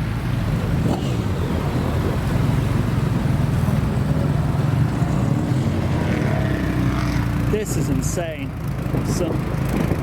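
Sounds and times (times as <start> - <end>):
car engines driving past: 0.0 - 10.0.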